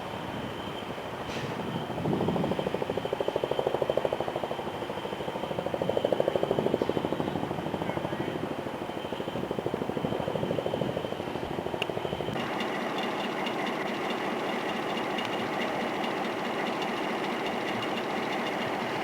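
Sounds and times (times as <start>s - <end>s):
diesel locomotive engine pulsing: 0.0s - 19.0s.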